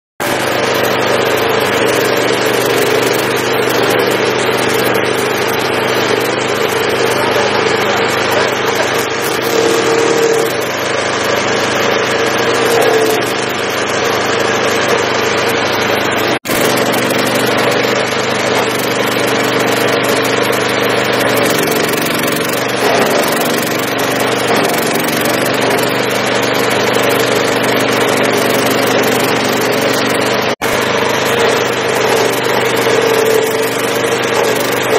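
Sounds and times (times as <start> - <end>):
petrol engine running: 0.2 - 34.9.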